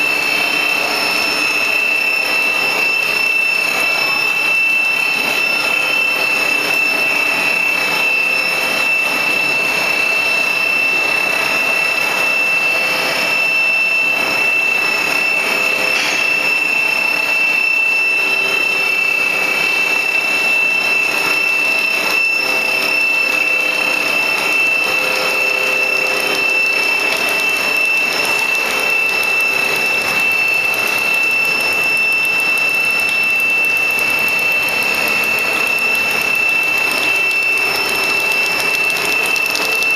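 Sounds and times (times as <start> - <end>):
high-pitched machine whine: 0.0 - 39.9
machine running steadily: 0.0 - 39.9.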